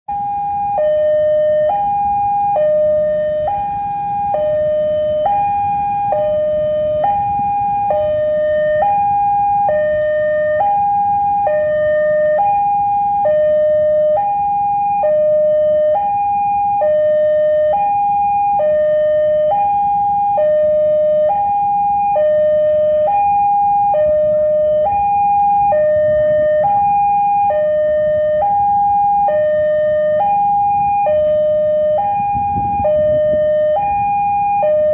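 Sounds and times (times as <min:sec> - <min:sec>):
two-tone crossing alarm: 0:00.1 - 0:34.9.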